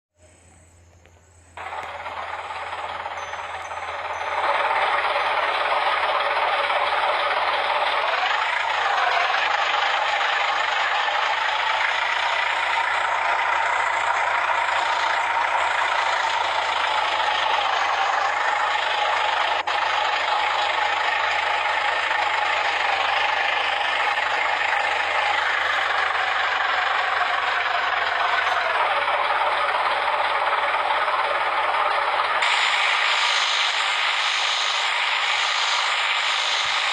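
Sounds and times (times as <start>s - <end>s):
road-paving machinery rattling: 0.8s - 36.9s
machine whine: 0.9s - 36.9s.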